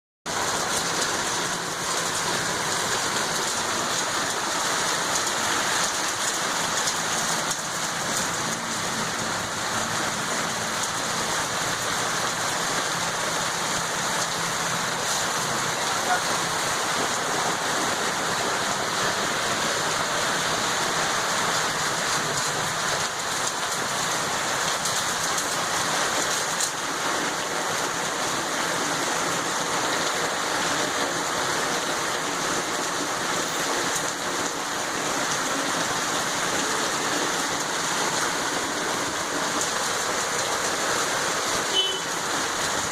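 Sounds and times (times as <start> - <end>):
heavy rain pouring: 0.3 - 42.9.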